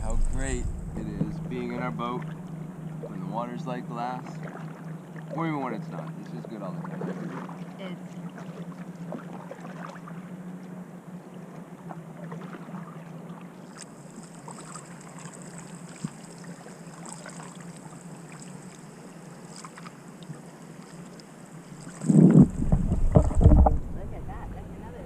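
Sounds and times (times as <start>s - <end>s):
faint high-pitched whine: 0.0s - 9.4s, 10.1s - 25.0s
steady low hum: 0.0s - 25.0s
paddling water splashes and drips: 0.1s - 3.2s, 3.9s - 23.9s.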